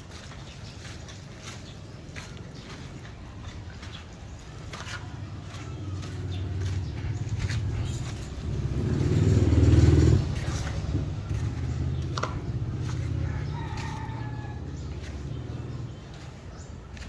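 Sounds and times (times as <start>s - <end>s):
engine running: 1.9s - 17.0s.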